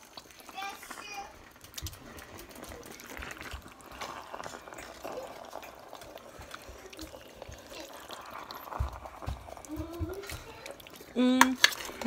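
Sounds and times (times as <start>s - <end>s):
spoon stirring thick sauce: 0.0s - 12.0s.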